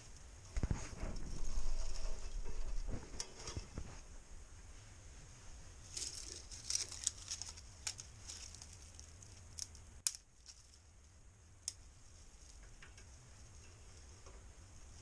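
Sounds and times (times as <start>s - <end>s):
dry kindling crackling: 0.0s - 15.0s.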